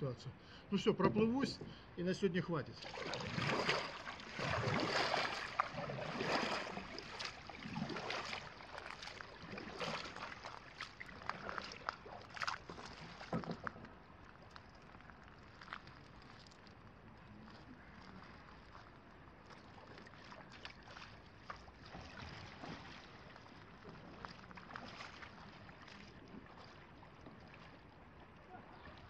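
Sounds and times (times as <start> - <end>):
kayak paddle splashing water: 2.7 - 29.0
water dripping and sloshing: 2.7 - 29.0.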